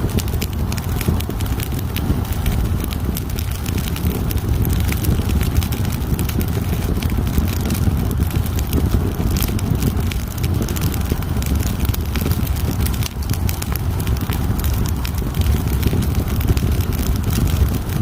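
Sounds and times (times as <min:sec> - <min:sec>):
low rumble: 0:00.0 - 0:18.0
wood fire crackling: 0:00.0 - 0:18.0.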